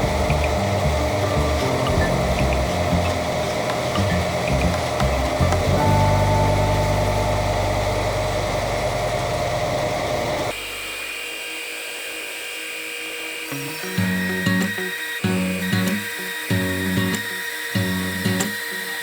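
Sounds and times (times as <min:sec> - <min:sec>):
electric sawmill running: 0:00.0 - 0:19.0.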